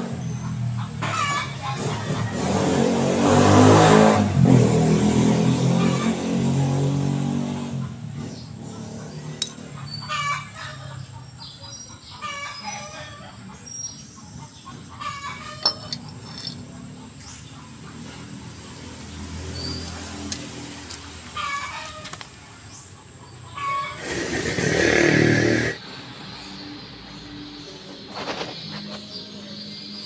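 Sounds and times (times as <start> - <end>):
vehicle engine: 0.0 - 30.0.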